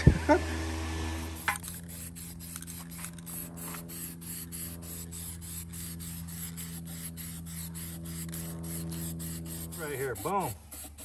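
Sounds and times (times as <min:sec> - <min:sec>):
steady low hum: 0:00.0 - 0:11.0
spray paint can hissing: 0:01.2 - 0:11.0.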